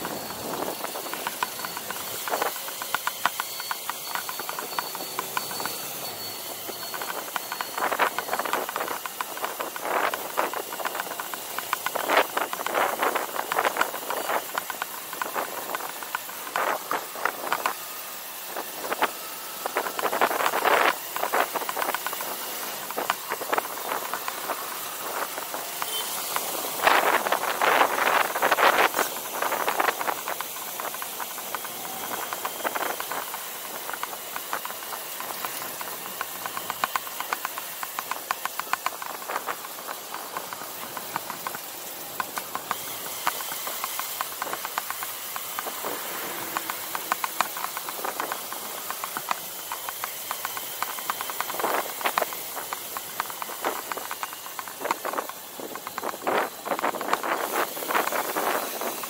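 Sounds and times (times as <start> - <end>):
motorbike engine ticking: 0.0 - 59.0.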